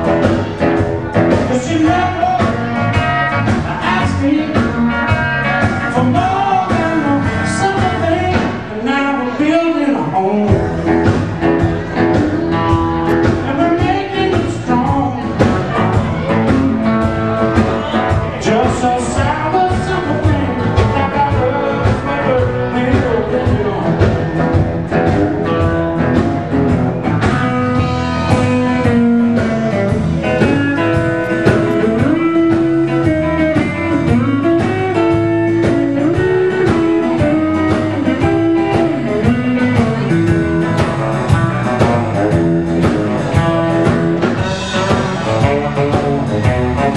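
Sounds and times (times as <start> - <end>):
electric guitar: 0.0 - 46.9
live blues band playing: 0.0 - 46.9.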